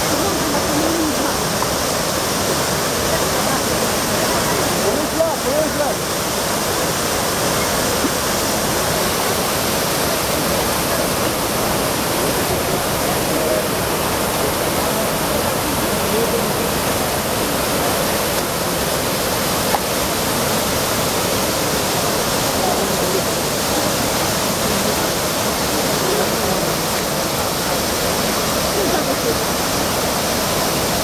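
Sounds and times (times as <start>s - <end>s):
fountain water pouring over rocks: 0.0s - 31.0s.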